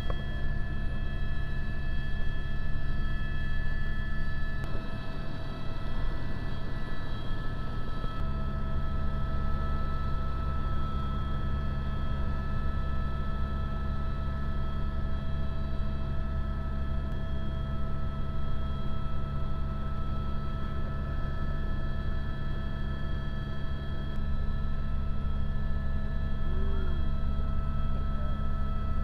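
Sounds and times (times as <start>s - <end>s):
helicopter engine whine: 0.0s - 29.0s
helicopter rotor drone: 0.0s - 29.0s.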